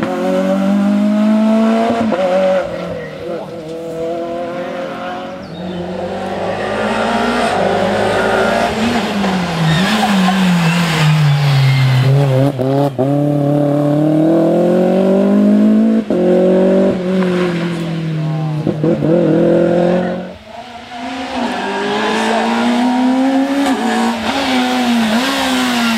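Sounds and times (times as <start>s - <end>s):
rally car engine revving: 0.0s - 25.9s.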